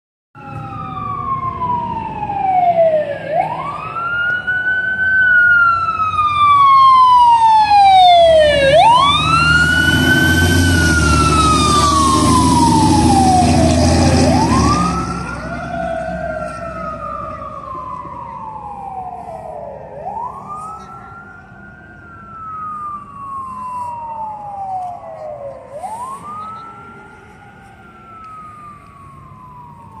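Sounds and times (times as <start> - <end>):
fire engine siren wailing: 0.4 - 30.0
truck engine rumble: 0.4 - 30.0.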